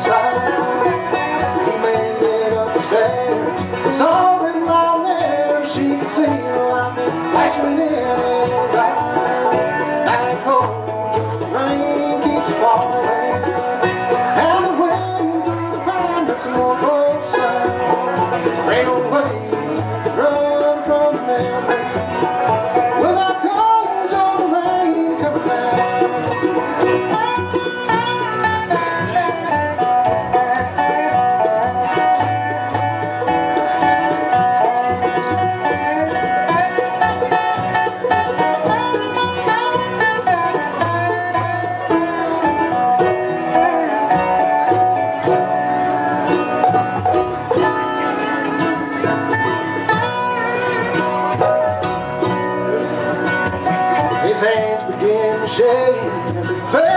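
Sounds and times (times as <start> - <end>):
banjo rolls: 0.0 - 56.9
bluegrass band playing: 0.0 - 56.9.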